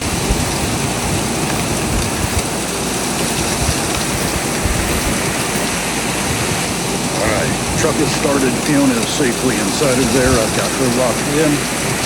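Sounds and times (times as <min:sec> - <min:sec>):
strong blizzard wind: 0:00.0 - 0:12.0
wind buffeting microphone: 0:00.0 - 0:12.0.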